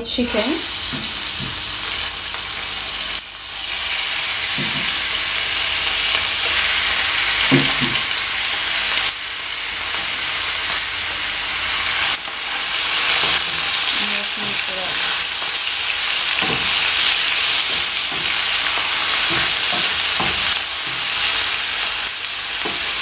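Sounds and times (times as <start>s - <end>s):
chicken sizzling in hot oil: 0.1s - 23.0s.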